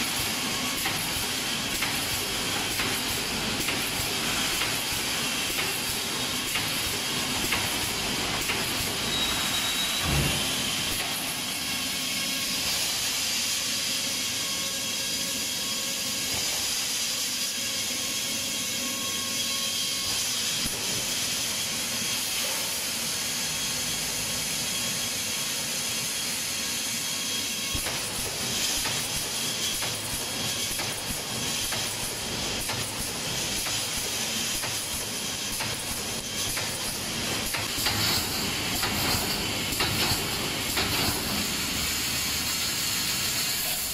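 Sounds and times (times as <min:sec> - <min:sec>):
welding machine hiss: 0:00.0 - 0:43.9.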